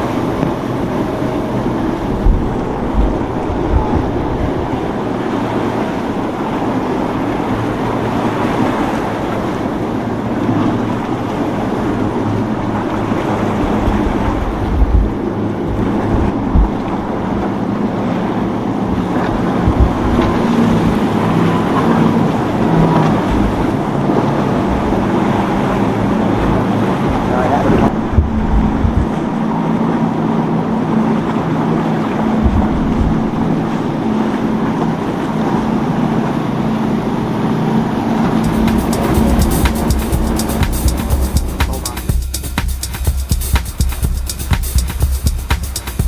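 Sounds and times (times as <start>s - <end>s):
wind buffeting microphone: 0.0s - 38.4s
boat engines running: 0.0s - 46.0s
surf washing: 0.0s - 46.0s.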